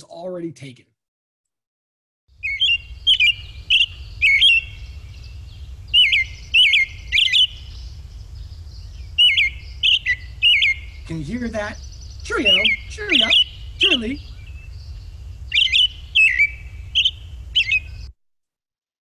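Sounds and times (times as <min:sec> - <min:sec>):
low steady rumble: 0:02.4 - 0:18.1
robin singing: 0:02.4 - 0:18.1.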